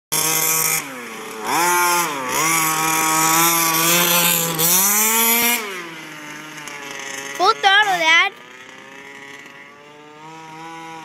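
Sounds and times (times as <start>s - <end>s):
model buggy engine revving: 0.1s - 11.0s.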